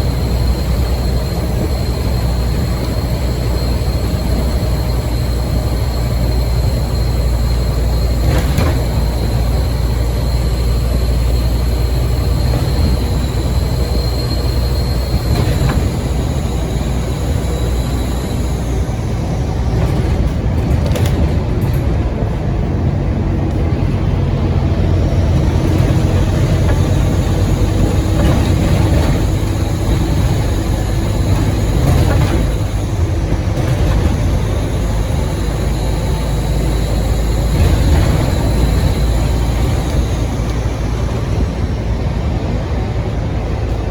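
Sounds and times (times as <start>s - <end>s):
turbocharger whistle: 0.0s - 19.7s, 24.9s - 41.8s
bus engine drone: 0.0s - 43.9s
road rumble: 0.0s - 43.9s.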